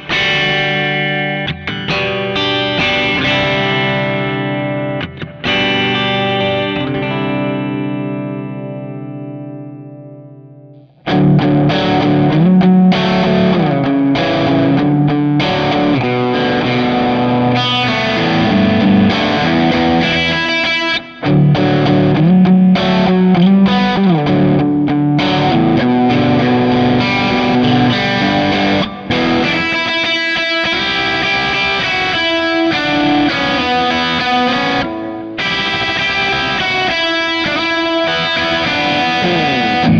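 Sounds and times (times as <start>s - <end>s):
electric guitar riff with slides: 0.0s - 39.9s
ringing guitar chord: 0.0s - 39.9s.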